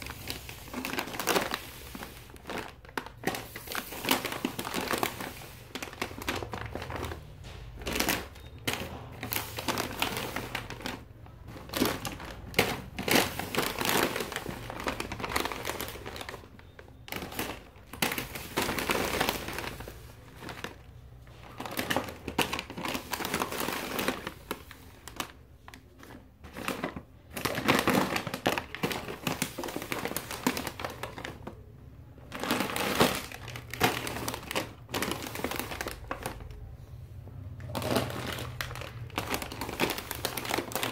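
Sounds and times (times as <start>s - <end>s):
plastic snack bags crinkling: 0.0s - 40.9s.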